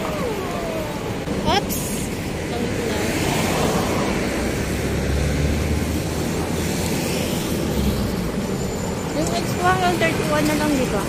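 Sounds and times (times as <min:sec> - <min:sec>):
rushing noise with deep rumble: 0:00.0 - 0:11.0.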